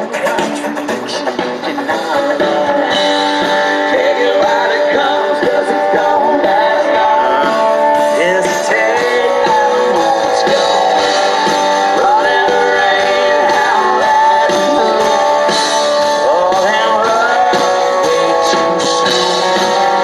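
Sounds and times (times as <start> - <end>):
country-rock band playing: 0.0 - 20.0
strummed guitars: 0.0 - 20.0.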